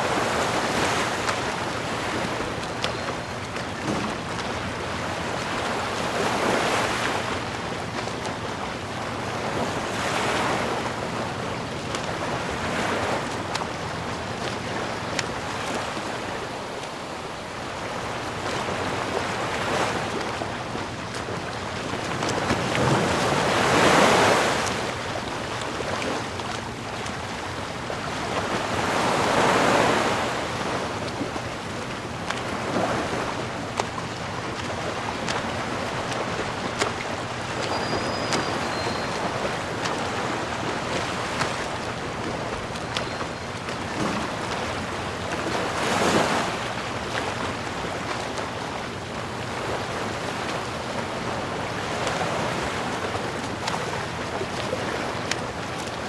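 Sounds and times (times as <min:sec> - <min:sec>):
sea waves washing ashore: 0:00.0 - 0:56.0.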